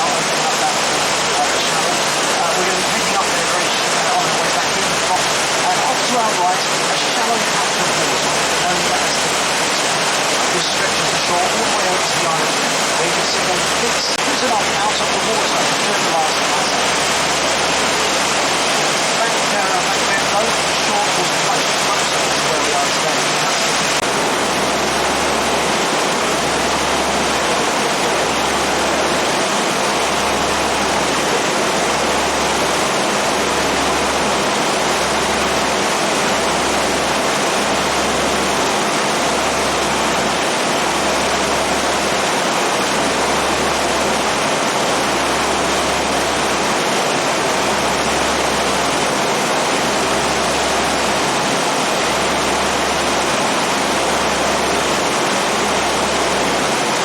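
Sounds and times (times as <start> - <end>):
rushing noise aboard boat: 0.0 - 57.0.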